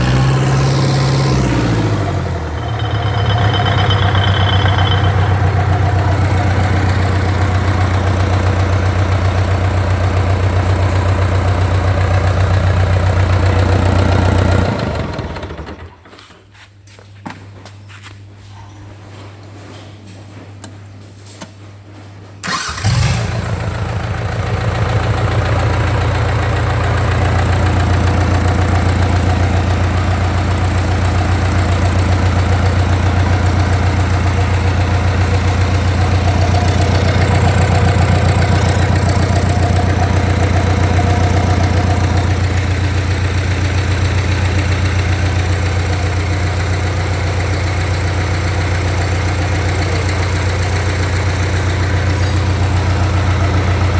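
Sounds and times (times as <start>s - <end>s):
diesel engine starting and idling: 0.0s - 16.1s, 22.4s - 53.9s.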